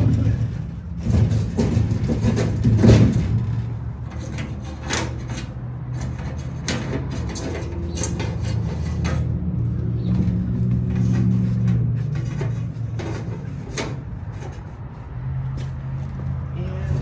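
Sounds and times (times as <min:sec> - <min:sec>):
wood rubbing and scraping: 0:00.0 - 0:17.0.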